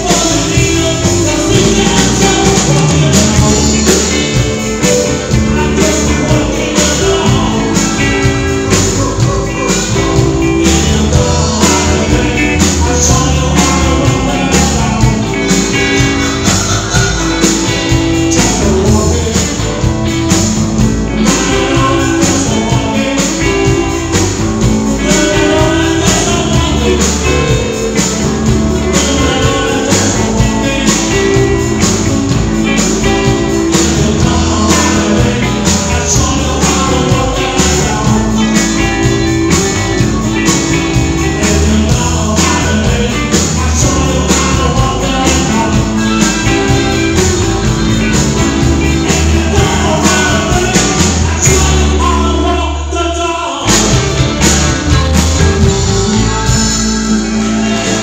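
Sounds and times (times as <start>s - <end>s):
drums playing a steady beat: 0.0s - 52.6s, 53.6s - 58.0s
bass guitar: 0.0s - 58.0s
electric guitars: 0.0s - 58.0s
person singing: 0.0s - 58.0s.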